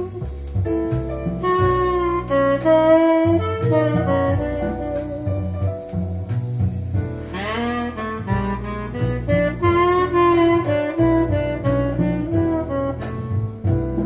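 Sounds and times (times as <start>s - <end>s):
jazz ballad over loudspeakers: 0.0s - 14.0s.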